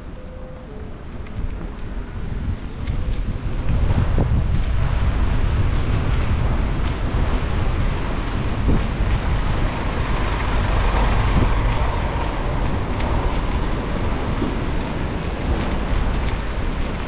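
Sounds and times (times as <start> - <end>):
street traffic: 0.0 - 17.0
wind over microphone: 0.0 - 17.0.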